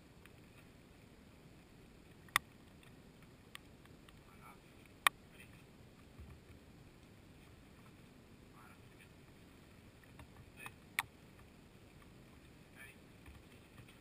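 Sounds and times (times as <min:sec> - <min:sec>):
faint background hiss: 0:00.0 - 0:14.0.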